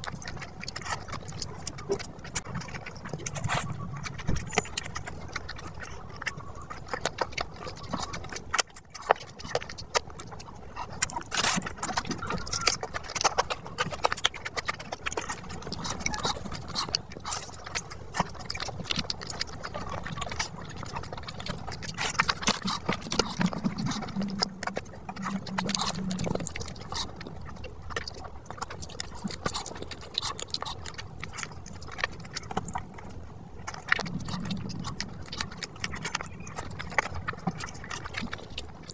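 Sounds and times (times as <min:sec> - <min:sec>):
wet chewing and mouth clicks: 0:00.0 - 0:38.9.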